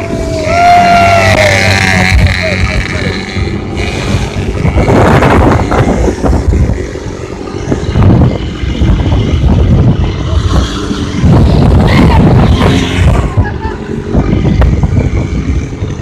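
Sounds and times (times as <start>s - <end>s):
quad bike engines running: 0.0s - 16.0s
wind buffeting microphone: 0.0s - 16.0s.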